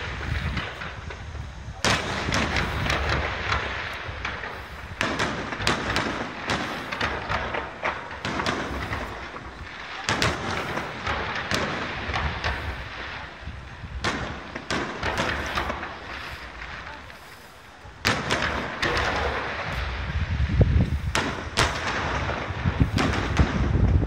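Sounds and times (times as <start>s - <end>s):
firework shells bursting: 0.0s - 24.0s.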